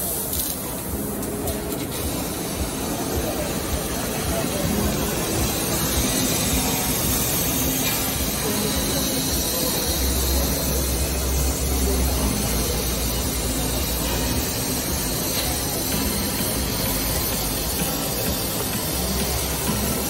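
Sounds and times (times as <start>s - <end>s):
gas jet hissing: 0.0s - 20.0s.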